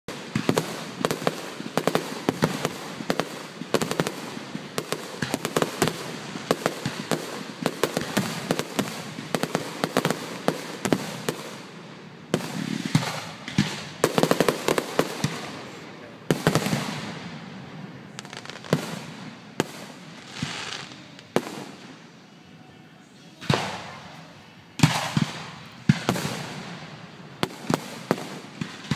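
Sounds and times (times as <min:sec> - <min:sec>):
firework cracks and pops: 0:00.1 - 0:17.2, 0:18.1 - 0:22.2, 0:23.4 - 0:28.9
firework bangs: 0:00.1 - 0:22.2, 0:23.4 - 0:28.9.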